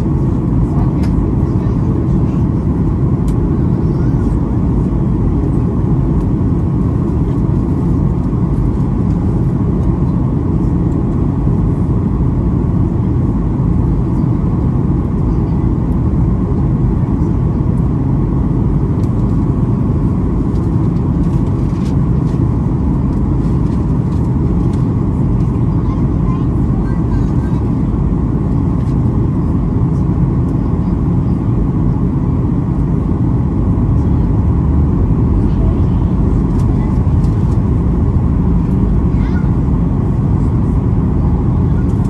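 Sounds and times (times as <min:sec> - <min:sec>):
jet engines rumbling inside cabin: 0:00.0 - 0:42.0.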